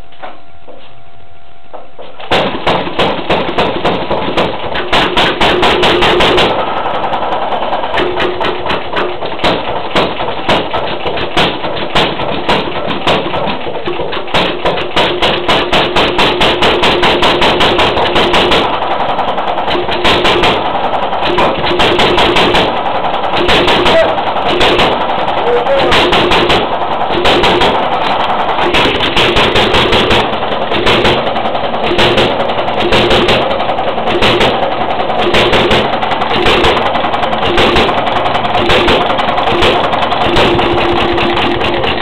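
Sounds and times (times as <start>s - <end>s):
hit-and-miss engine running: 0.0s - 42.0s.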